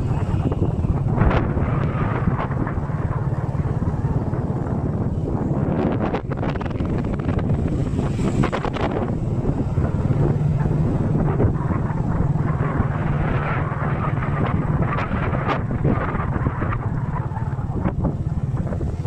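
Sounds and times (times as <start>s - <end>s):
road noise: 0.0s - 19.0s
vehicle engine running: 0.0s - 19.0s
wind buffeting microphone: 0.0s - 19.0s.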